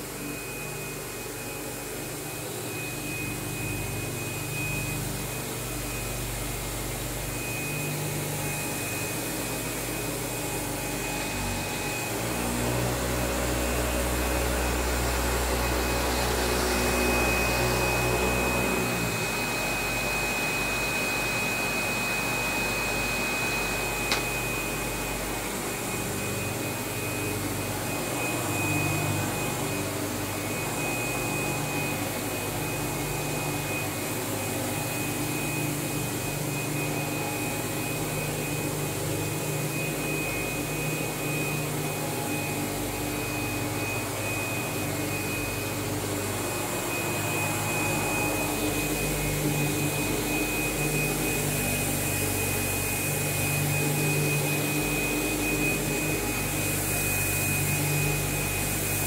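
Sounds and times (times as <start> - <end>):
upright vacuum running: 0.0 - 59.0.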